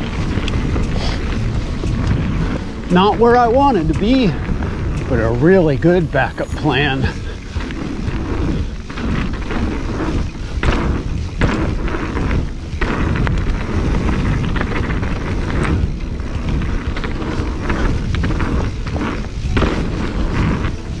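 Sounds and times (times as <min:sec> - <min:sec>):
bike rolling over dirt: 0:00.0 - 0:21.0
wind rumbling on microphone: 0:00.0 - 0:21.0.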